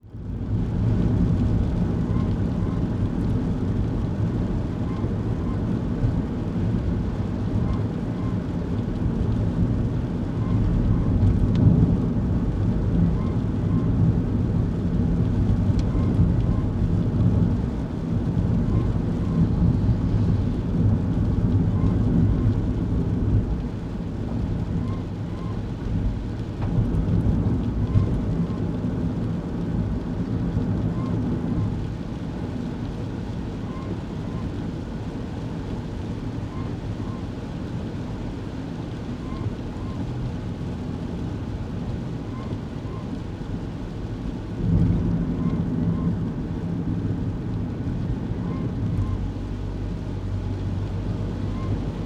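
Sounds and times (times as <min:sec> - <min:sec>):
engine and tyres on wet road: 0:00.0 - 0:52.0.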